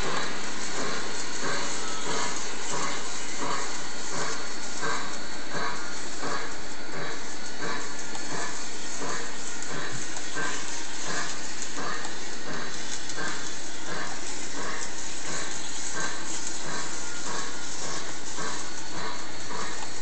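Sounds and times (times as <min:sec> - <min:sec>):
constant steam hiss: 0:00.0 - 0:20.0
model steam locomotive chuffing: 0:00.0 - 0:20.0.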